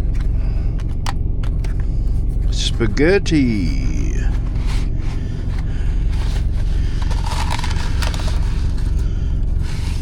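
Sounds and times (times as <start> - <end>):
diesel engine drone: 0.0 - 10.0.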